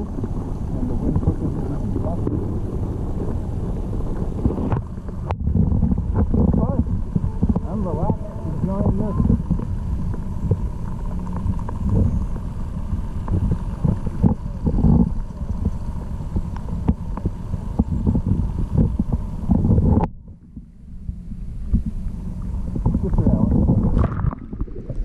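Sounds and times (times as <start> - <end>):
underwater rumble of moving water: 0.0 - 25.0.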